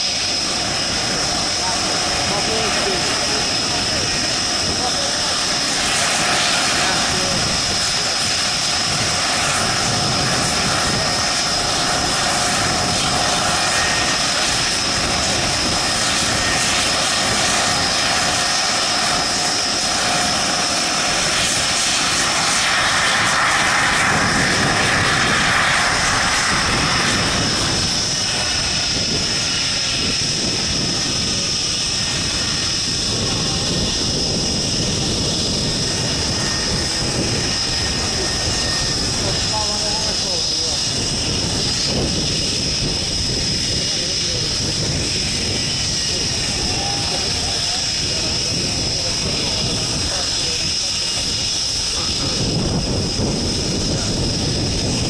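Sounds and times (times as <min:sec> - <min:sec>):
jet engine idling with high whine: 0:00.0 - 0:55.0.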